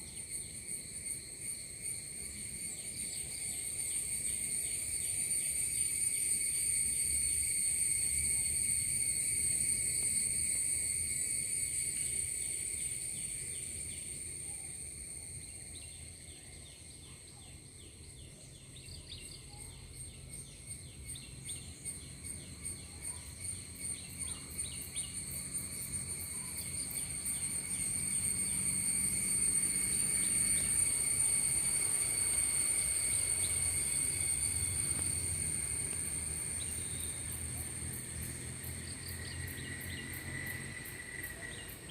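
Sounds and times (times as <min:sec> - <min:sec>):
insect drone: 0:00.0 - 0:41.9
rapid insect chirps: 0:00.0 - 0:41.9.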